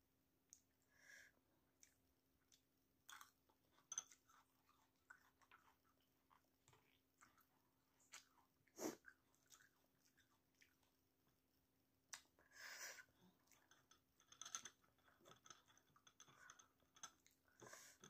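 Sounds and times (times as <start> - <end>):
quiet chewing: 0.5 - 18.0.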